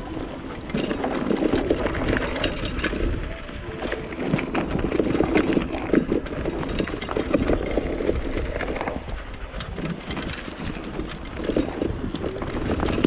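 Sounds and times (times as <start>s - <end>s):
bike clattering and knocking: 0.0s - 13.0s
tyres over dry grass: 0.0s - 13.0s
wind rumble on microphone: 0.0s - 13.0s.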